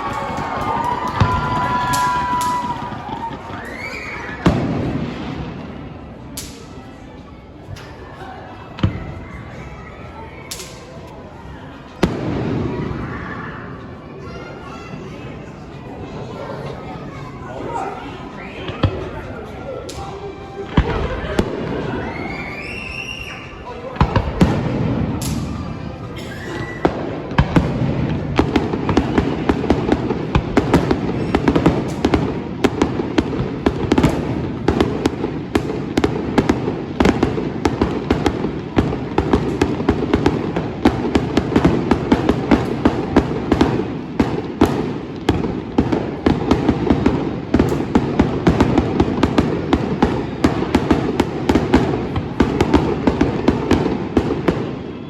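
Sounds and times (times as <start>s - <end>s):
fireworks bangs: 0.0s - 6.8s, 8.7s - 9.5s, 11.9s - 13.8s, 18.7s - 55.0s.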